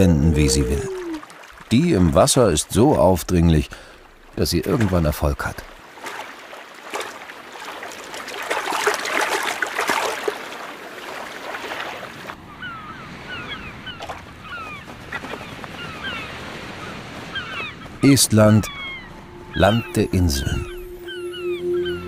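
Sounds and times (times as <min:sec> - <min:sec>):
seabirds calling: 0:00.0 - 0:07.8, 0:10.5 - 0:22.0
water gently lapping: 0:00.0 - 0:22.0
water splashing and sloshing: 0:00.0 - 0:22.0.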